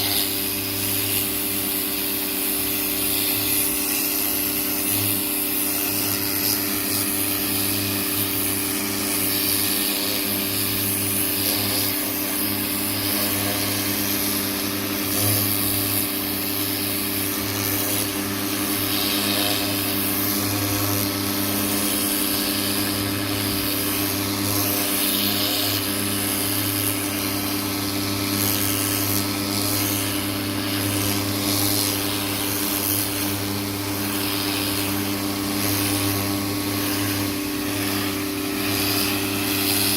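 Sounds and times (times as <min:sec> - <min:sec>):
electric pressure washer humming: 0:00.0 - 0:39.9
water spraying against siding: 0:00.0 - 0:39.9.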